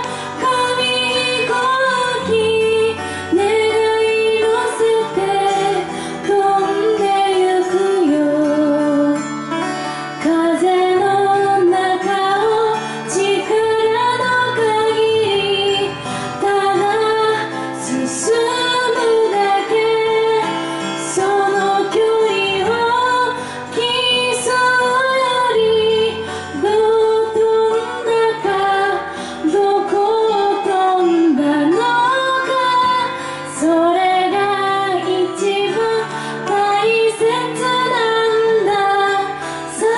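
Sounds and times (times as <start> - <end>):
acoustic guitar: 0.0 - 39.9
woman singing pop song: 0.0 - 39.9.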